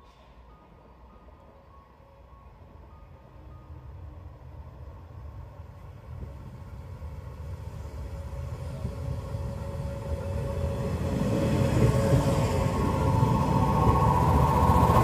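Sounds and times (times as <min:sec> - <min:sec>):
electric train whine: 0:00.0 - 0:15.0
train wheels rumbling on rails: 0:02.4 - 0:15.0.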